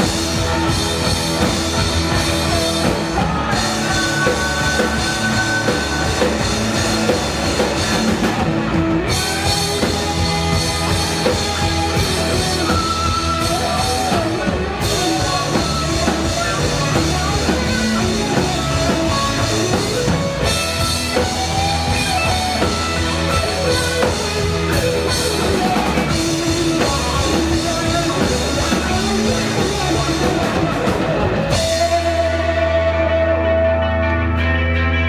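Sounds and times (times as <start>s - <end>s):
drum kit: 0.0s - 35.0s
electric guitars: 0.0s - 35.0s.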